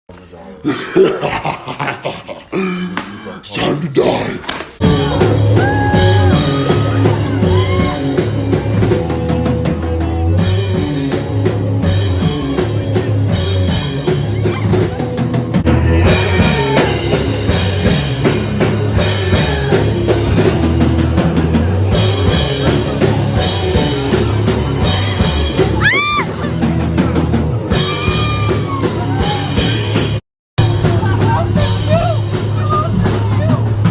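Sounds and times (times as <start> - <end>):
drum kit beat: 4.8 - 33.9
loud rock music: 4.8 - 33.9.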